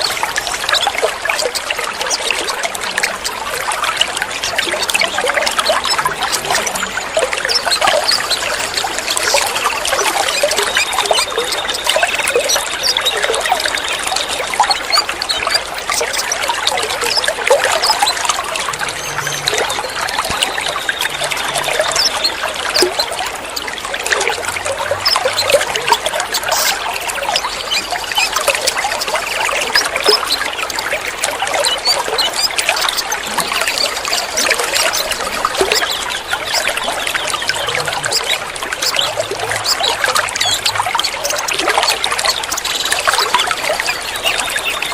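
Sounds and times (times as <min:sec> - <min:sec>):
water trickling and splashing: 0:00.0 - 0:44.9.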